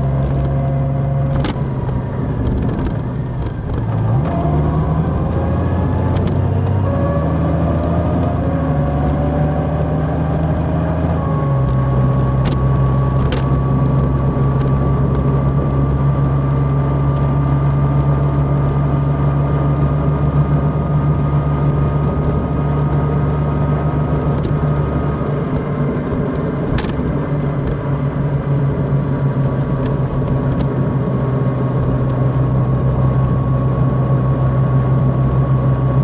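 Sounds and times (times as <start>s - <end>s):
motorcycle engine accelerating: 1.0s - 15.9s, 21.2s - 36.0s.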